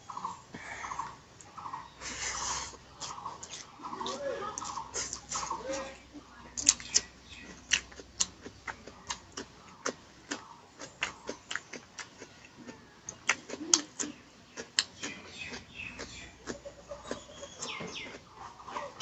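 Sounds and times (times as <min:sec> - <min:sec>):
chewing and lip-smacking: 0:01.4 - 0:19.0.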